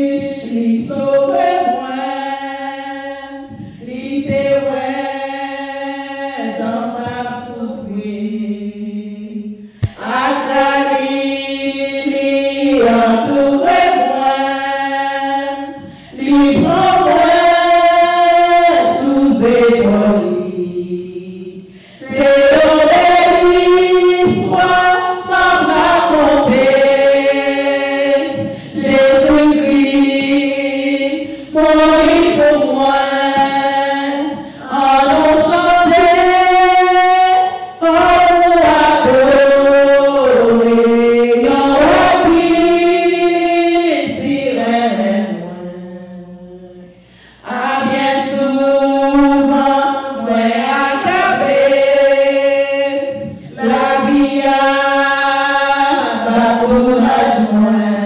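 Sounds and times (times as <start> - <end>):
woman singing a hymn: 0.0 - 58.0.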